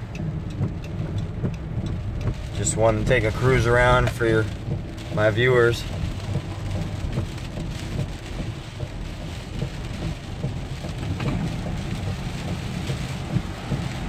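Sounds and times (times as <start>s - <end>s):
heavy rain hitting a car: 0.0s - 14.0s
road noise: 0.0s - 14.0s
wind: 0.0s - 14.0s.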